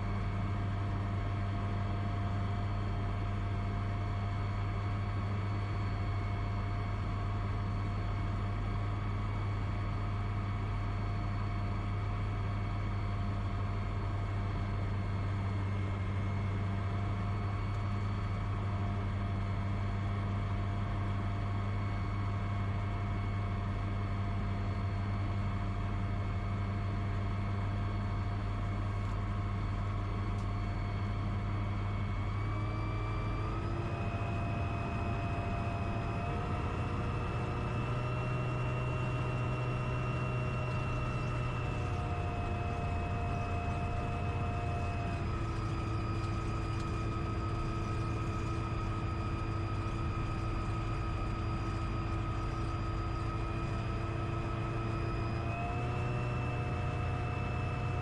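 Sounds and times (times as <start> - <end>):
aircraft engine and propeller idling: 0.0 - 58.0.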